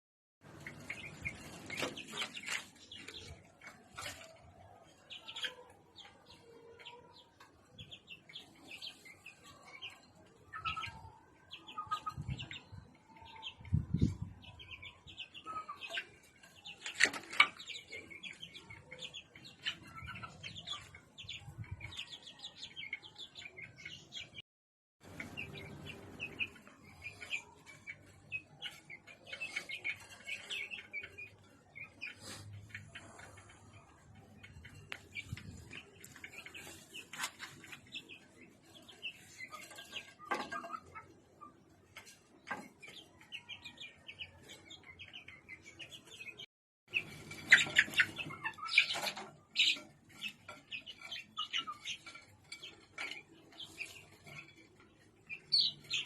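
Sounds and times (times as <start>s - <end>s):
small birds chirping: 0.4s - 24.4s, 25.0s - 56.0s.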